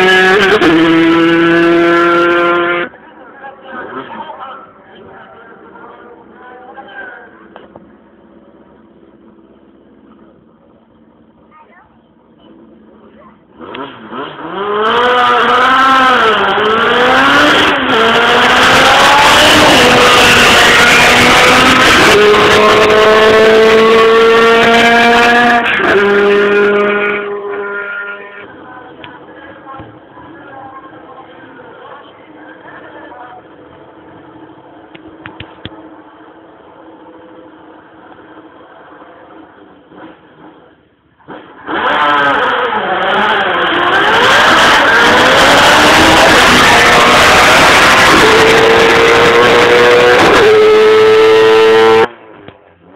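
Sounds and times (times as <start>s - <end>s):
race car accelerating: 0.0s - 11.4s, 12.3s - 52.9s.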